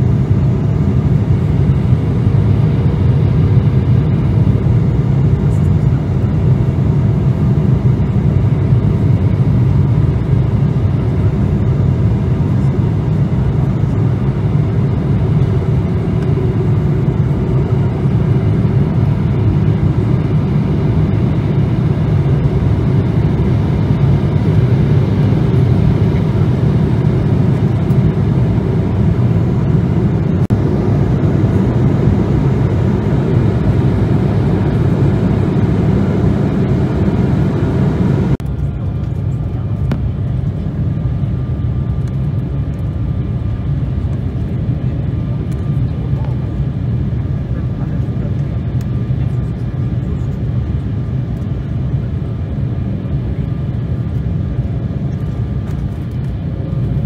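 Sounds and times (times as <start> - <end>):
jet engines and airflow rushing: 0.0 - 57.0.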